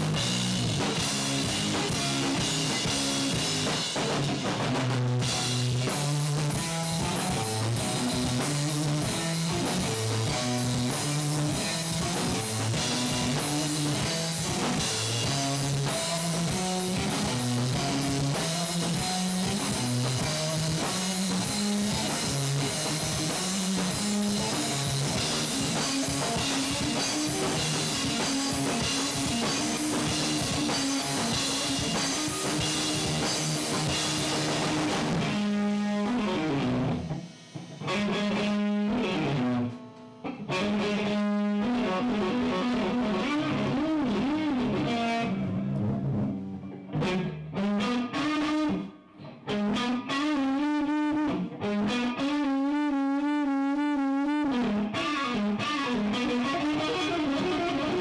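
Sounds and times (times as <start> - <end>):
rock drum beat: 0.0 - 48.8, 54.4 - 58.0
electric guitar riff: 0.0 - 58.0.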